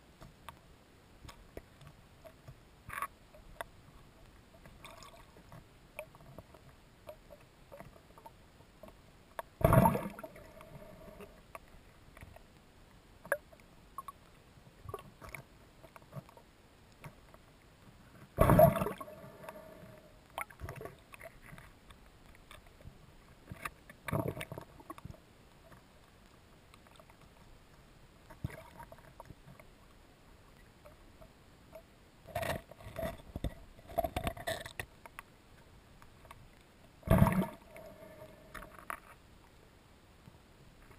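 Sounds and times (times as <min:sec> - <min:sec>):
underwater bubbling and gurgling: 0:00.0 - 0:39.6
faint underwater clicks: 0:00.1 - 0:40.9.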